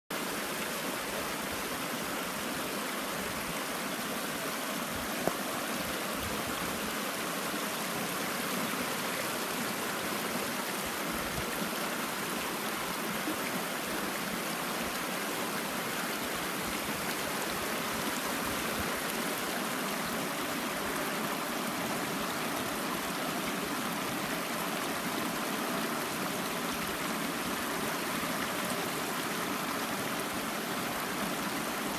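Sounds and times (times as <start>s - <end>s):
stream rushing over rocks: 0.1s - 31.9s.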